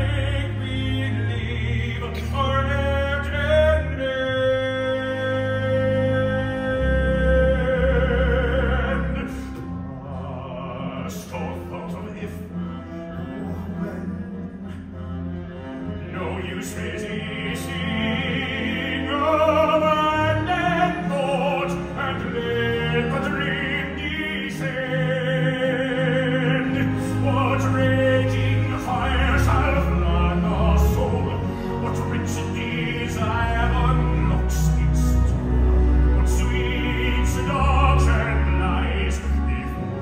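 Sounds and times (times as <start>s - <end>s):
pit orchestra playing: 0.0s - 40.0s.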